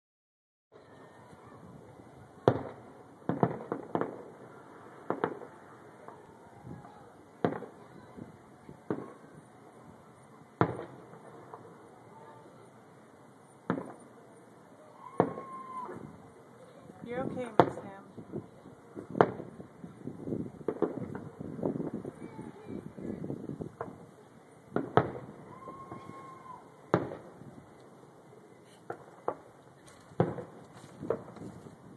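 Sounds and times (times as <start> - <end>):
fireworks bangs with echo: 1.4 - 12.7, 13.4 - 31.9.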